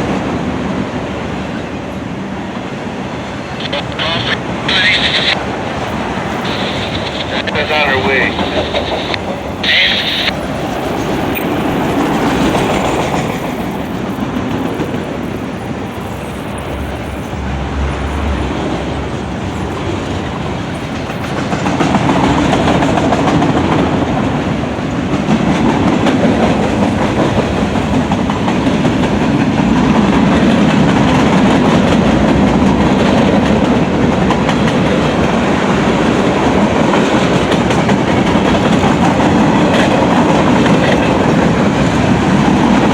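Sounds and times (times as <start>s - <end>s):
train rumble: 0.0s - 42.9s
train wheels clicking over rail joints: 5.1s - 42.9s.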